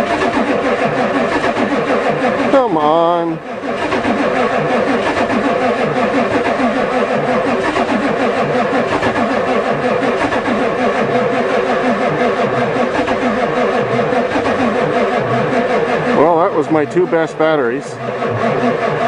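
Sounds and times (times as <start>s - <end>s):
starter cranking diesel engine: 0.0s - 19.0s.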